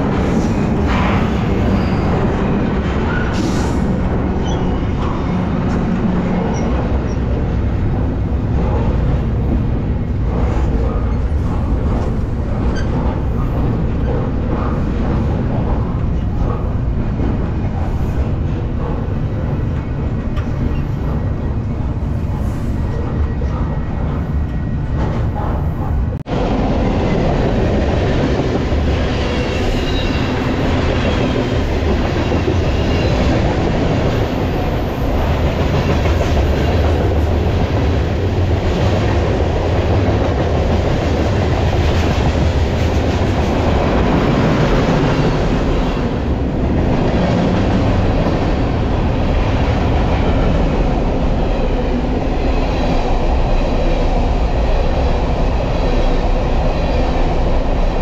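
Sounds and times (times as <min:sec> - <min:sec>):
train wheels rumbling and rattling: 0:00.0 - 0:58.0.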